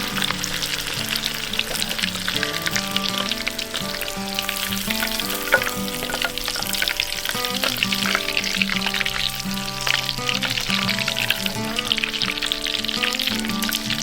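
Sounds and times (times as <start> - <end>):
background music: 0.0 - 14.0
shrimp deep-frying in oil: 0.0 - 14.0.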